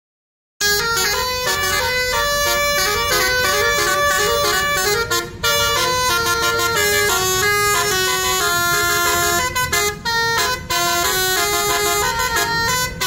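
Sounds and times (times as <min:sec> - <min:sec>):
multi-trumpet air horn melody: 0:00.6 - 0:13.0.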